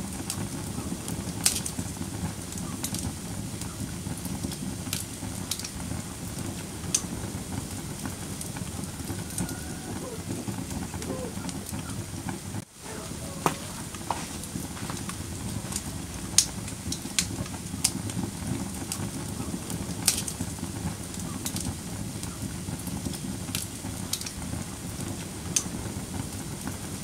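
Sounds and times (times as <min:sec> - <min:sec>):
sharp pops from fire: 0:00.0 - 0:12.7, 0:13.4 - 0:27.0
wood fire crackling: 0:00.0 - 0:27.0.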